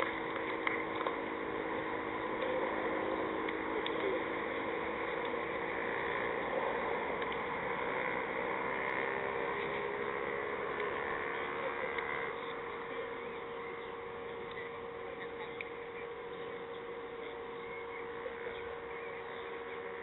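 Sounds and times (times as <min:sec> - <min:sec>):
faint continuous hum: 0:00.0 - 0:20.0.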